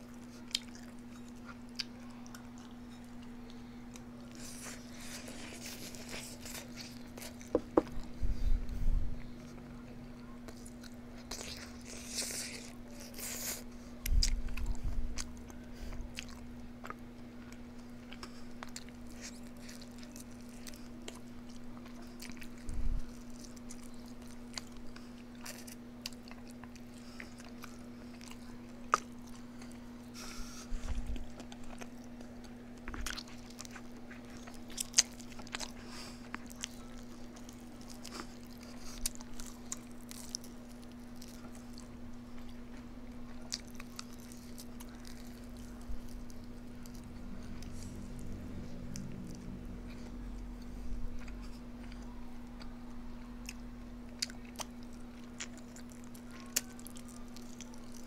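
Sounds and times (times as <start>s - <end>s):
faint hum: 0.0s - 58.0s
person chewing and biting: 3.9s - 8.2s, 10.5s - 15.5s, 16.1s - 52.7s, 53.4s - 58.0s.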